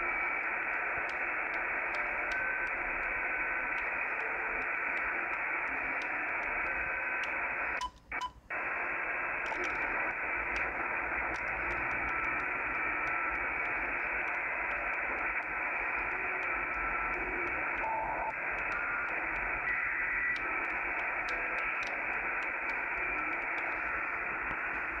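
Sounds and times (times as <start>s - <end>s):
faint radio carrier whistles: 0.0s - 25.0s
muffled radio static hiss: 0.0s - 25.0s.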